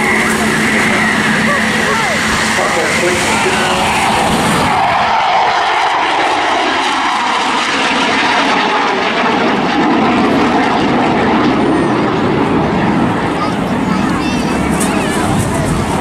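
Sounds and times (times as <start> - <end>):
jet and piston aircraft roar: 0.0 - 16.0.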